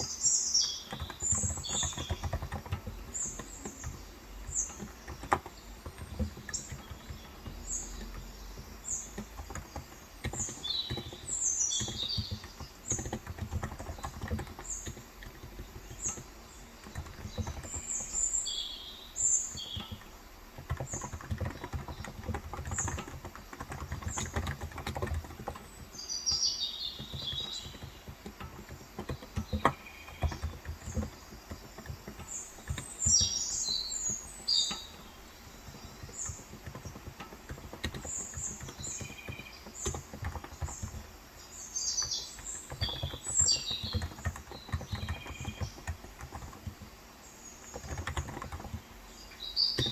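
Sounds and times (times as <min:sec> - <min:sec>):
keyboard keystroke clatter: 0:00.0 - 0:49.9
small birds chirping: 0:00.0 - 0:49.9.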